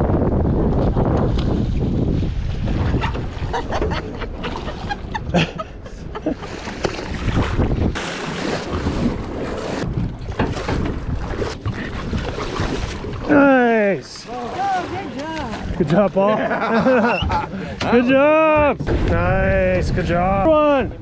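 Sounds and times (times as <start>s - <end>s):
wind buffeting microphone: 0.0s - 13.5s, 14.3s - 21.0s
sea water sloshing and splashing: 0.7s - 19.4s.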